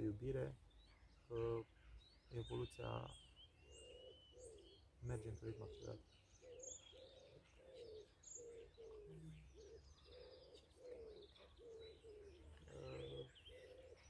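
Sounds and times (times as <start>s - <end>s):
small birds chirping: 0.0s - 14.0s
low cooing bird: 2.3s - 14.0s.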